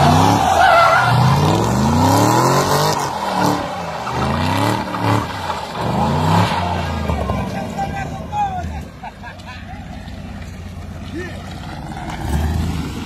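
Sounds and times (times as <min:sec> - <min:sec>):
car engine revving: 0:00.0 - 0:09.0, 0:09.8 - 0:13.0
tyres squealing: 0:00.0 - 0:12.3.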